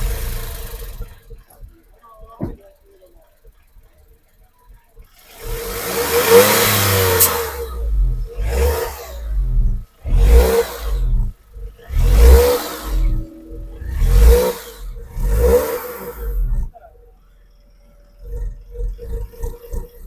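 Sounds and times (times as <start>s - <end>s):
car engine revving: 0.0s - 1.7s, 4.4s - 20.0s.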